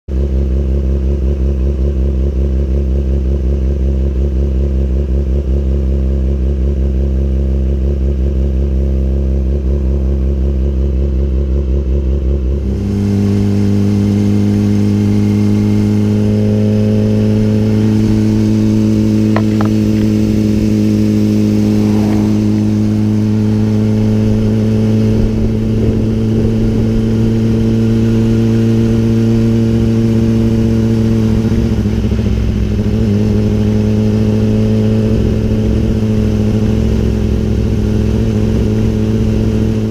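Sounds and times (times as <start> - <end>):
motorcycle engine: 0.1 - 39.9
wind and road noise: 0.1 - 39.9.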